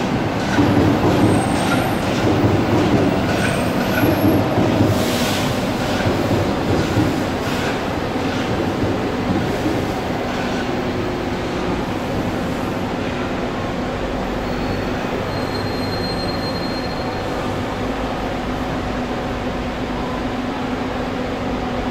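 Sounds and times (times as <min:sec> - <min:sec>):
train rumble and hum: 0:00.0 - 0:21.9.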